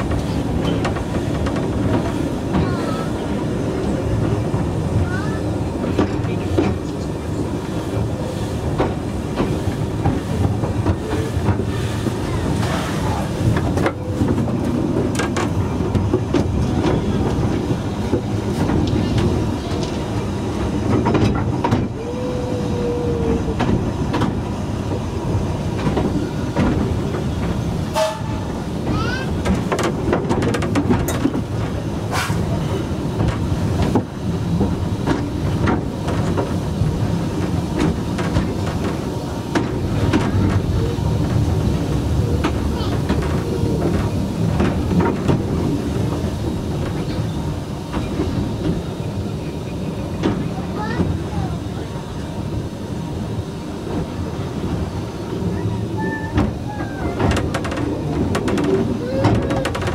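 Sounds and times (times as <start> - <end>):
train wheels rumbling on rails: 0.0 - 59.9
wheels clicking over rail joints: 8.6 - 59.9.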